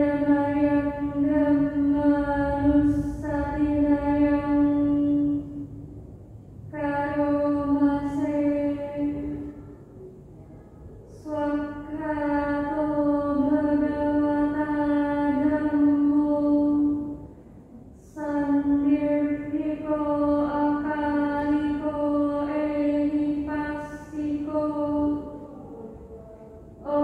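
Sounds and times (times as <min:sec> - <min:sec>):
woman chanting on one pitch: 0:00.0 - 0:05.6, 0:06.7 - 0:09.6, 0:11.1 - 0:17.2, 0:18.0 - 0:27.0.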